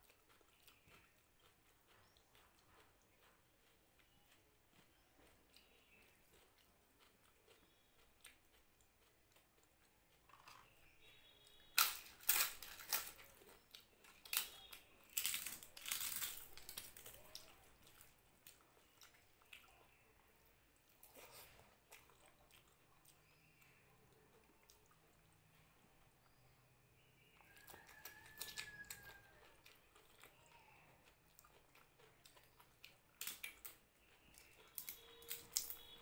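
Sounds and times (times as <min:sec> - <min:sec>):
loud crunching of crisp food: 0:00.0 - 0:26.4, 0:27.3 - 0:36.0
faint soft eating sounds: 0:00.0 - 0:36.0.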